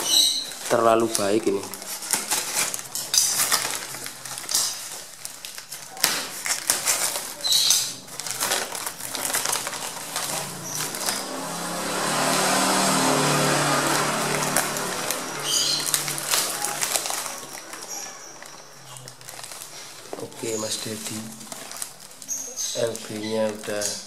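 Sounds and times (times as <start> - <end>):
paper and tape ripping: 0.0 - 24.0.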